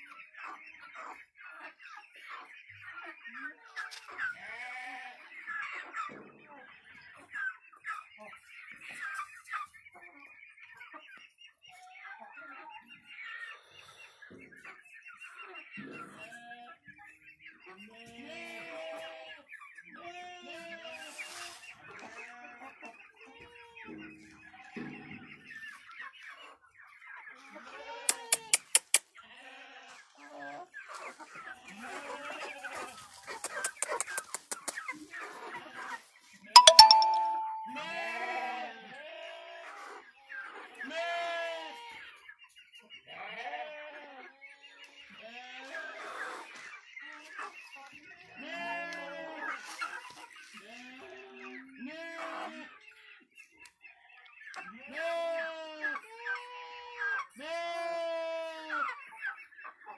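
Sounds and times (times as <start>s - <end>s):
chickens clucking and calling: 0.0s - 4.5s, 5.1s - 18.2s, 18.9s - 37.7s, 39.6s - 40.9s, 41.7s - 43.1s, 44.0s - 57.4s, 58.0s - 59.9s.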